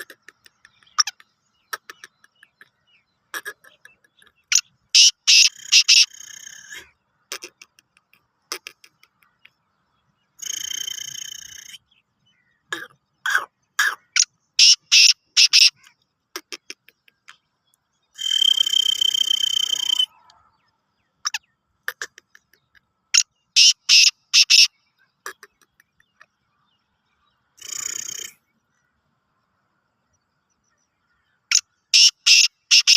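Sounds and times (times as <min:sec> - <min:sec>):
francolin calling: 0:00.0 - 0:09.6, 0:10.3 - 0:17.4, 0:18.0 - 0:26.8, 0:27.5 - 0:29.0, 0:31.0 - 0:32.9.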